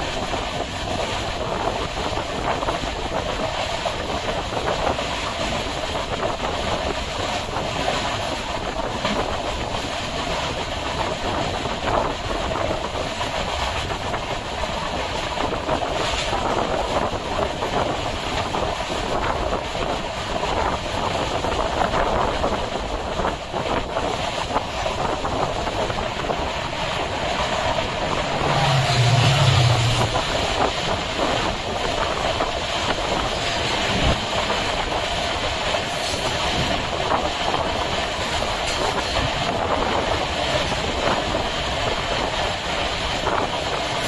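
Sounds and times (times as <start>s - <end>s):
train rumble and rush: 0.0s - 44.0s.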